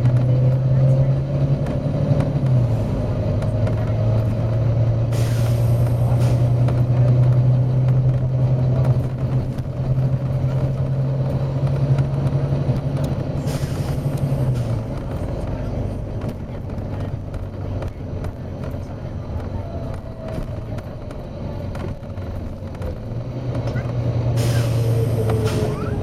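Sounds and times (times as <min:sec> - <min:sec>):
diesel bus engine running: 0:00.0 - 0:26.0.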